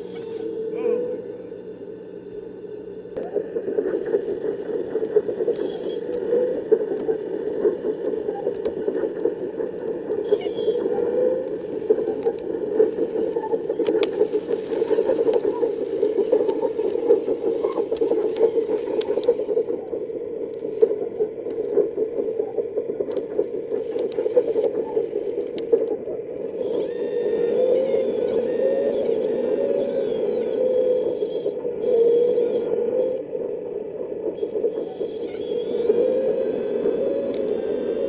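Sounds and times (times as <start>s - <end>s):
grinding mechanical drone: 0.0s - 38.0s.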